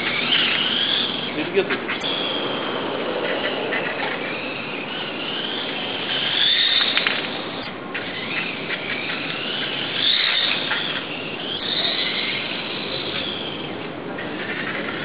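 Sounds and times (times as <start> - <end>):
electric motor whining: 0.0 - 13.8.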